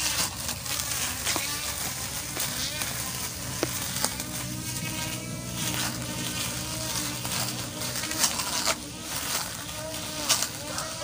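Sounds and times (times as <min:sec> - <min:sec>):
grass trimmer running: 0:00.0 - 0:11.0.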